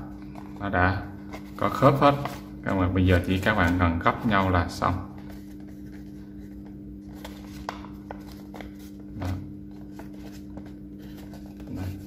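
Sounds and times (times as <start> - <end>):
steady low hum: 0.0 - 12.0
paper crackling and crinkling: 0.1 - 12.0.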